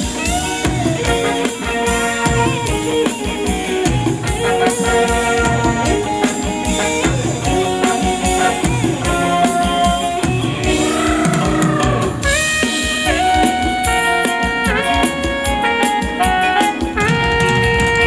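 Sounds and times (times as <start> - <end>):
live band dance music: 0.0 - 18.0
steady drum beat: 0.0 - 18.0.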